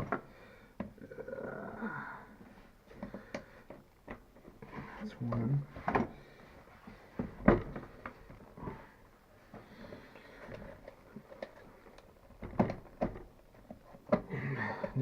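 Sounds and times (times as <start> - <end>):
soft clicks and rustles: 2.5 - 15.0.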